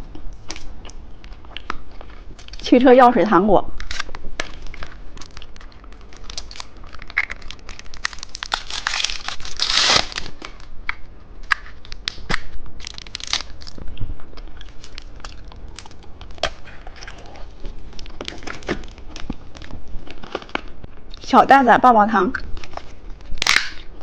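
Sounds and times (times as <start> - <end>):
plastic packaging crinkling and tearing: 0.4 - 2.7, 3.7 - 21.2, 22.4 - 24.0.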